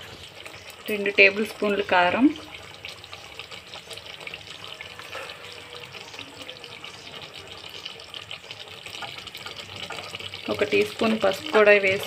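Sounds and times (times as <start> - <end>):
curry simmering and sizzling: 0.0 - 12.0.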